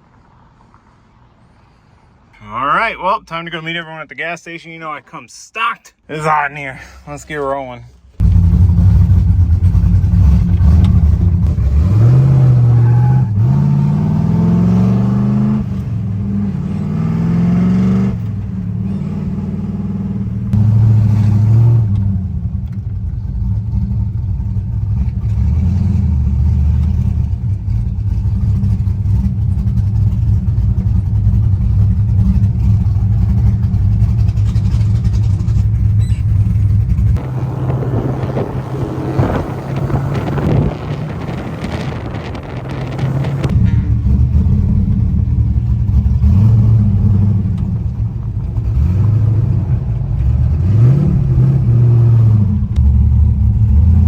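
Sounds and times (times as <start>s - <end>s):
car engine accelerating: 8.2s - 54.0s.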